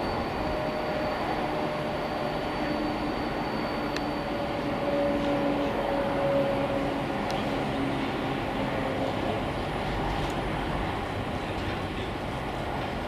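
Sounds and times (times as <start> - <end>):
locomotive engine droning: 0.0 - 13.0
train passing: 0.0 - 13.0.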